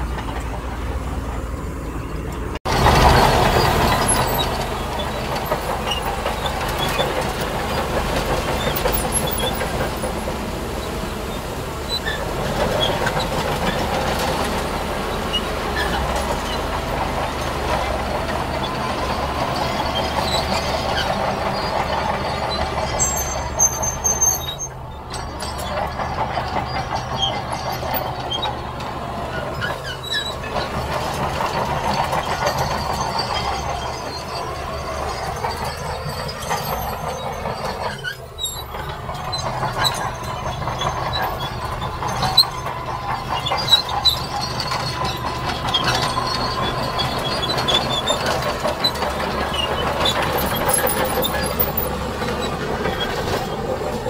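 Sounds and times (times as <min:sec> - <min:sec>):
diesel engine running: 0:00.0 - 0:54.0
metallic track clatter: 0:00.0 - 0:54.0
high squeal: 0:02.0 - 0:54.0.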